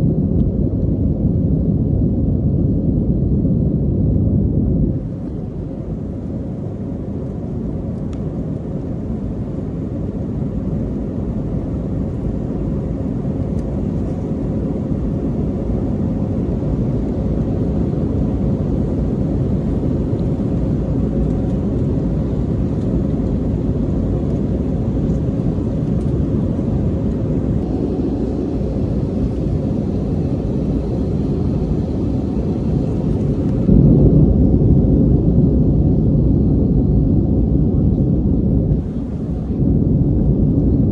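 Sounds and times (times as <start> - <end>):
airliner cabin roar: 0.0 - 40.9.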